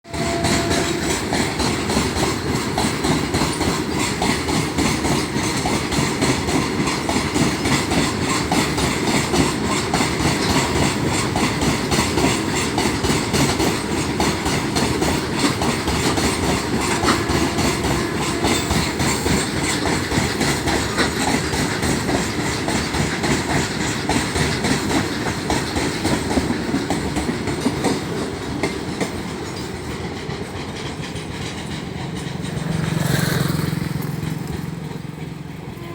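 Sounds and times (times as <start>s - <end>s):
train wheels clickety-clack: 0.1s - 35.9s.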